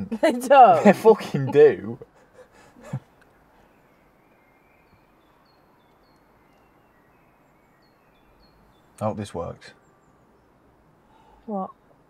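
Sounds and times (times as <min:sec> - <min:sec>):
low steady hiss: 0:00.0 - 0:12.0
bird chirping: 0:01.3 - 0:11.9.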